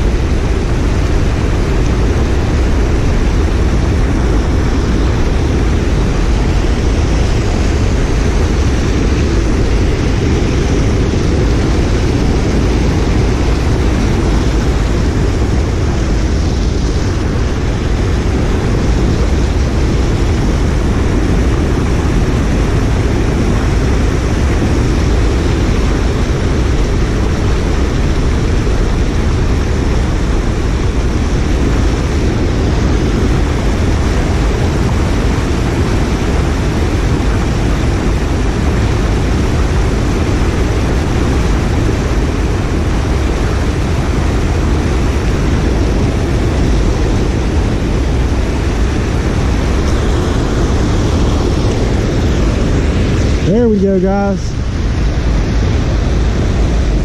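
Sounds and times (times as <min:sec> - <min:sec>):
water rushing over a dam: 0:00.0 - 0:57.0.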